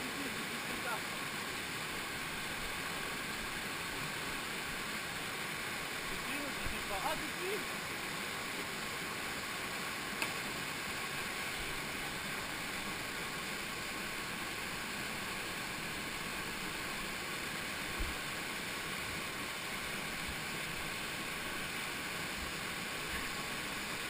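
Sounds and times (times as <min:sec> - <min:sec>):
waterfall rushing over rock: 0:00.0 - 0:24.0.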